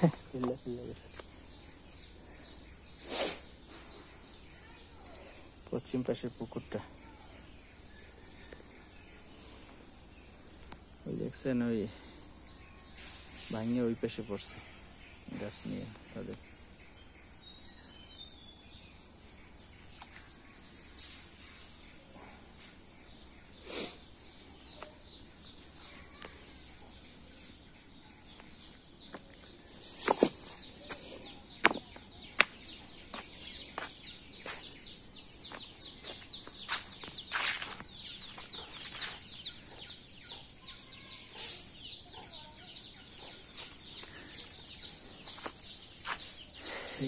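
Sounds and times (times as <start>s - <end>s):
birds chirping: 0.0s - 47.0s
insects droning: 0.0s - 47.0s.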